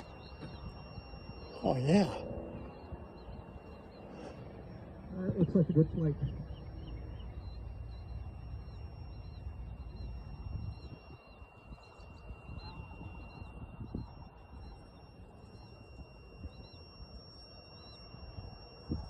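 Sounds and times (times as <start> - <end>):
bird chirping: 0.0 - 19.0
faint steady high tone: 0.0 - 19.0.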